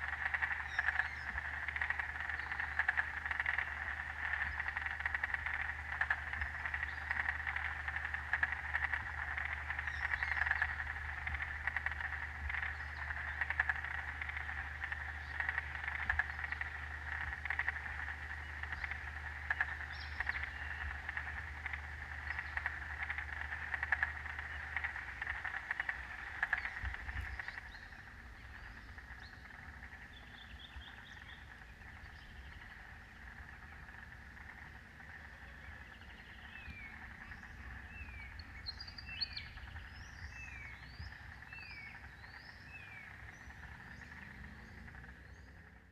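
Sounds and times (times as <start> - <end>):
frog chorus: 0.0 - 45.9
bird chirps: 0.2 - 45.8.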